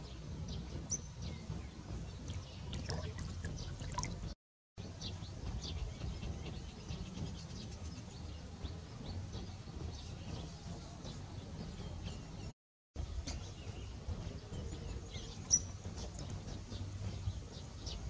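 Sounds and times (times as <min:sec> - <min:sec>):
small birds chirping: 0:00.0 - 0:12.5, 0:13.2 - 0:18.0
low outdoor rumble: 0:00.0 - 0:18.0.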